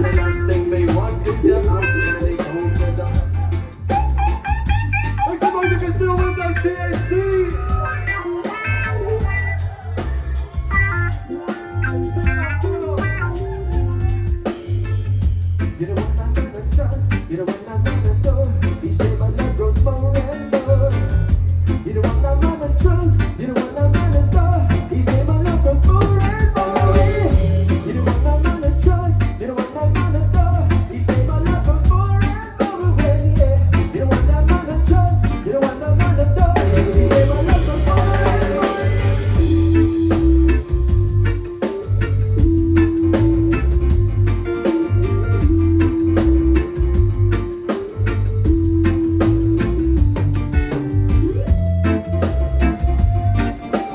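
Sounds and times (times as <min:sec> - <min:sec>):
bass guitar: 0:00.0 - 0:53.9
drum kit beat: 0:00.0 - 0:53.9
electric guitar: 0:00.0 - 0:53.9.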